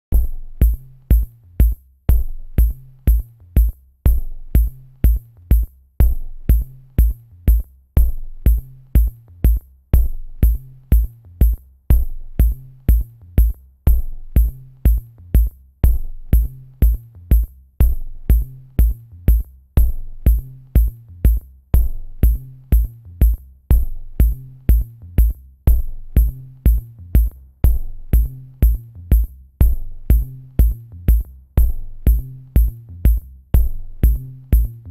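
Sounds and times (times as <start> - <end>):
bass line: 0.0 - 34.9
drum machine beat: 0.1 - 34.9.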